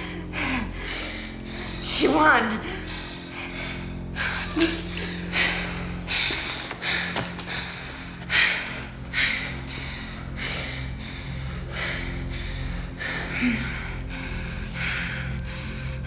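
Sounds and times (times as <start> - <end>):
low steady drone: 0.0 - 16.0
heavy gasping breaths: 2.7 - 16.0.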